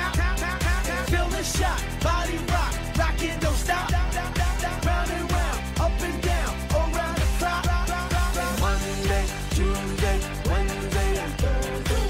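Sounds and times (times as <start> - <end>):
music with steady drum beat: 0.0 - 12.0.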